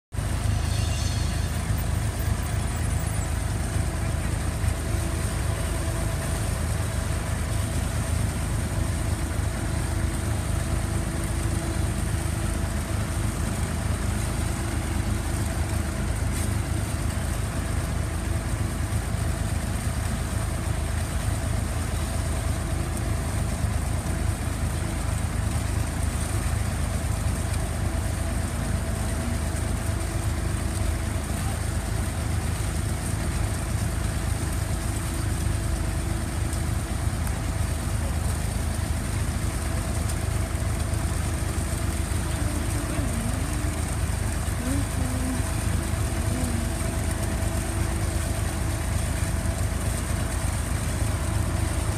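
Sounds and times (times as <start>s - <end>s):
tractor engine under load: 0.1s - 51.9s.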